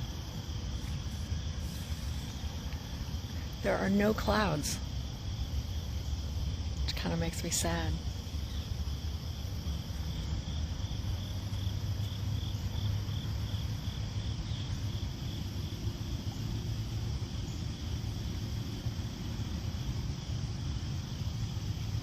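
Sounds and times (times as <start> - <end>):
insect chirping: 0.0 - 22.0
steady low rumble: 0.0 - 22.0.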